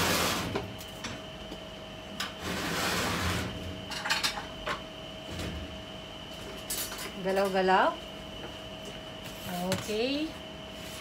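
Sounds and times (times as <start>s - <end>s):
high hum of kitchen equipment: 0.0s - 11.0s.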